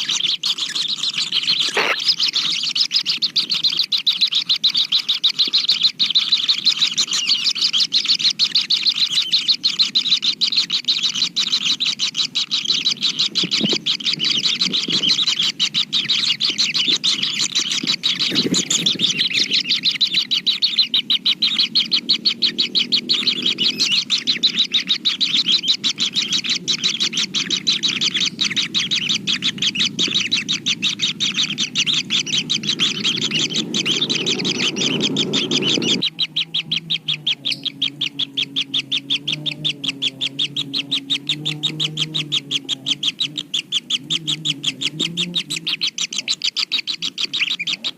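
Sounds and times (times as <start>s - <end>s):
bird nestlings chirping: 0.0s - 47.9s.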